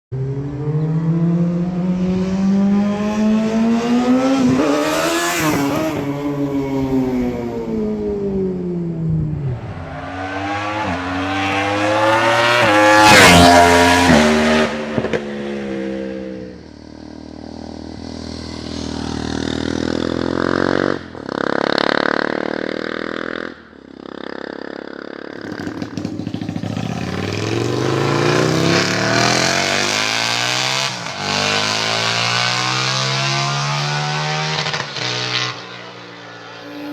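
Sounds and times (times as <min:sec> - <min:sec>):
motorcycle engines revving: 0:00.2 - 0:36.9.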